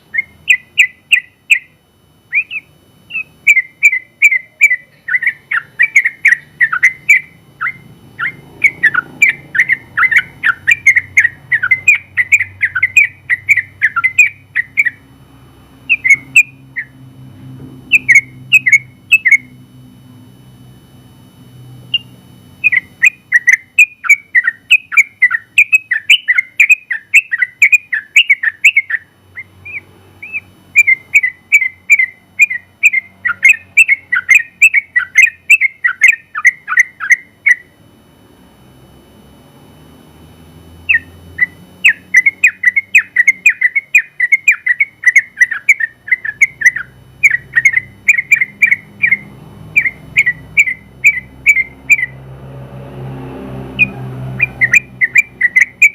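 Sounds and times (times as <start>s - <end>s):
bulbul singing whistled notes: 0.0s - 15.0s, 15.8s - 17.0s, 17.9s - 19.6s, 21.9s - 37.8s, 40.9s - 52.2s, 53.8s - 55.9s.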